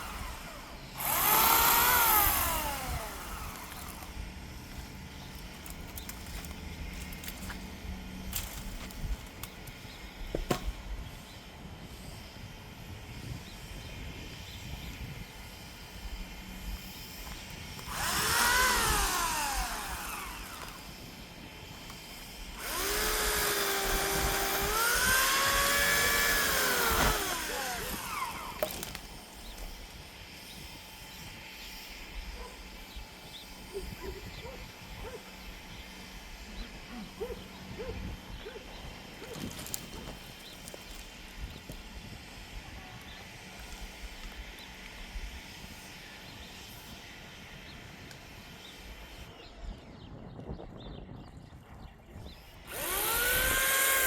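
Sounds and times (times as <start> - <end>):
electric chainsaw motor whining: 0.0 - 11.0, 11.8 - 49.3, 52.5 - 54.0.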